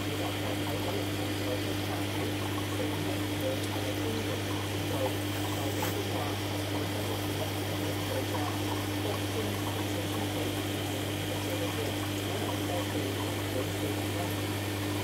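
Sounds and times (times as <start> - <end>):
aquarium air pumps humming: 0.0 - 15.0
water bubbling and trickling: 0.0 - 15.0.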